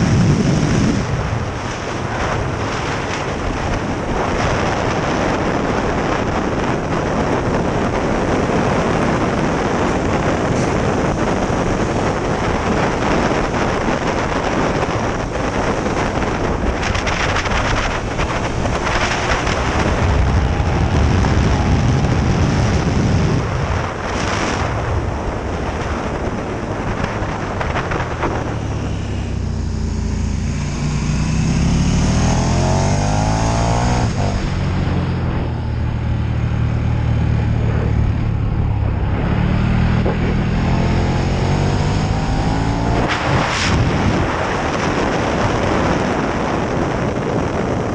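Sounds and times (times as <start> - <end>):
motorcycle engine accelerating: 0.0 - 47.9
wind noise on microphone: 0.0 - 47.9.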